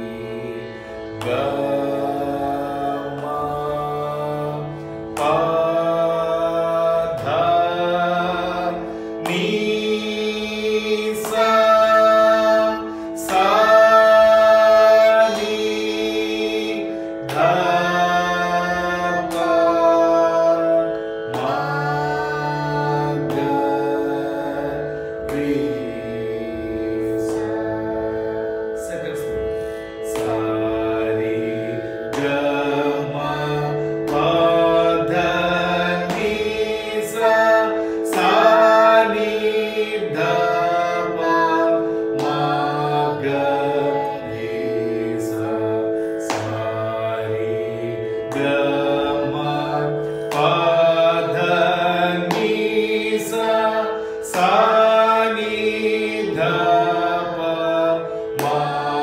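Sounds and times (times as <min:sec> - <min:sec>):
person singing long held notes: 0:00.0 - 0:59.0
sruti box drone: 0:00.0 - 0:59.0.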